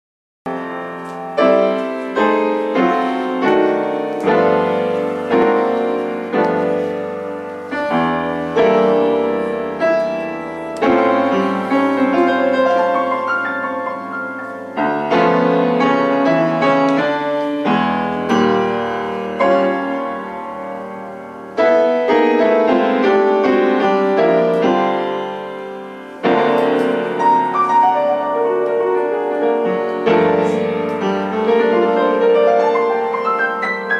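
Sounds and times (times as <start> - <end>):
slow piano melody: 0.5 - 33.9.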